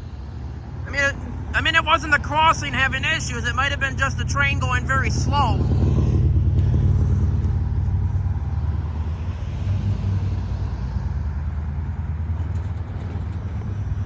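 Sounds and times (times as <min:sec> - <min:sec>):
passing train rumble: 0:00.0 - 0:14.0.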